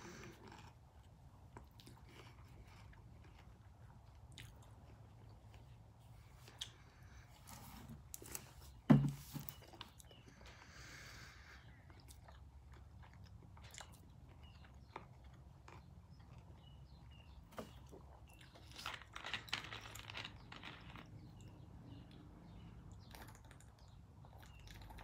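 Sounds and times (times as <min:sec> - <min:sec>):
chewing crunchy food: 0:00.0 - 0:07.2, 0:11.4 - 0:25.0.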